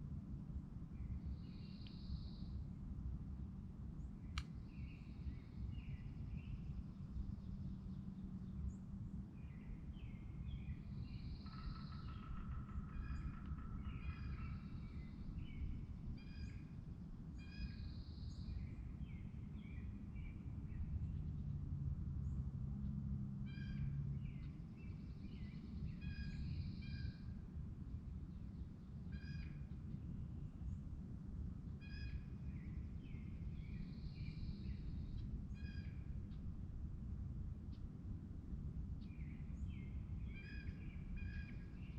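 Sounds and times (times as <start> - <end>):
low steady rumble: 0.0 - 41.9.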